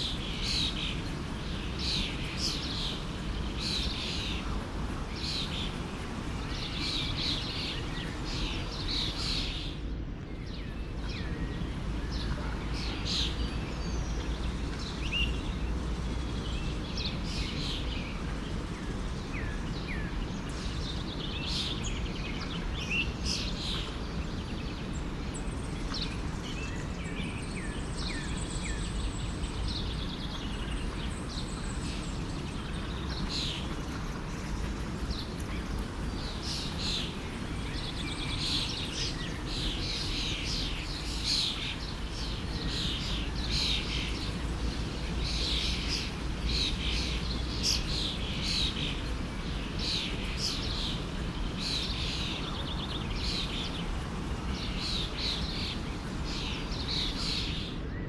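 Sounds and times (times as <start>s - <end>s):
small birds chirping: 0.0s - 57.8s
stream flowing: 0.1s - 9.2s, 11.0s - 21.0s, 28.5s - 57.6s.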